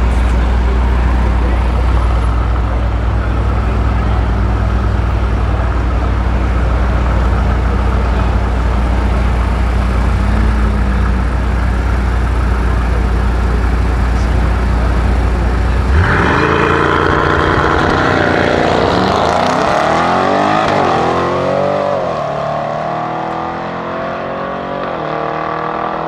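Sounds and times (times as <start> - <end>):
car engines idling: 0.0 - 26.0.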